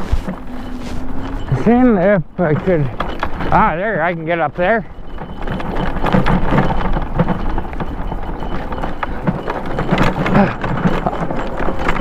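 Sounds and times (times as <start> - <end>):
bike tyres crunching on gravel: 0.0 - 12.0.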